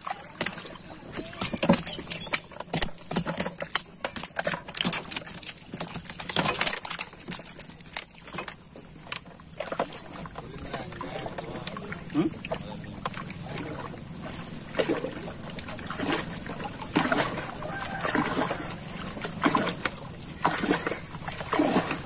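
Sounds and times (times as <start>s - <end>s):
net hauled over canoe side: 0.0s - 22.0s
water splashing and dripping: 0.0s - 22.0s.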